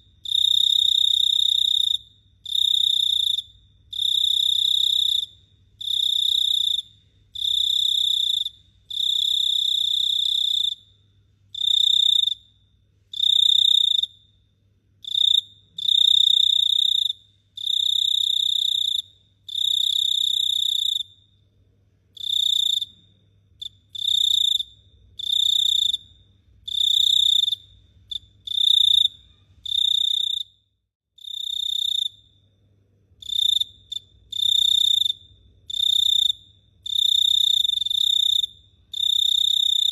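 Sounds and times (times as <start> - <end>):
cricket trilling: 0.0 - 11.0, 11.6 - 14.4, 15.0 - 21.3, 22.2 - 30.6, 33.2 - 39.9.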